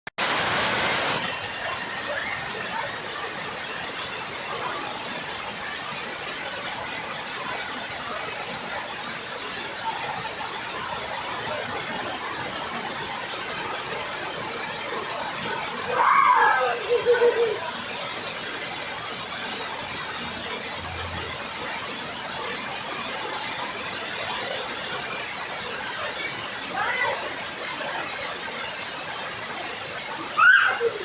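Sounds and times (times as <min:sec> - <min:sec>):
rain falling: 0:00.2 - 0:31.0.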